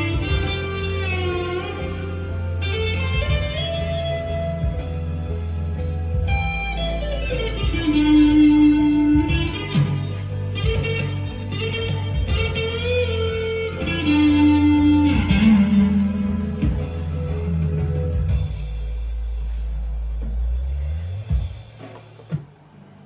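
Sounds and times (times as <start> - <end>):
overdriven electric guitar lead: 0.0 - 18.6
backing track: 0.0 - 22.8.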